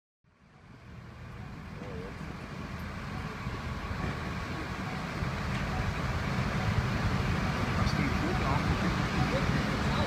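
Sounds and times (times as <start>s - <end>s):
road traffic rumble: 0.3s - 10.0s
vehicle engines running: 0.3s - 10.0s.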